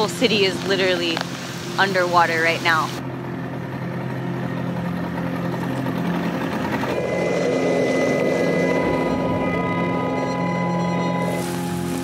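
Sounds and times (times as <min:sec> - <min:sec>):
helicopter engine and rotor: 0:00.0 - 0:12.0
steady engine hum: 0:00.0 - 0:12.0.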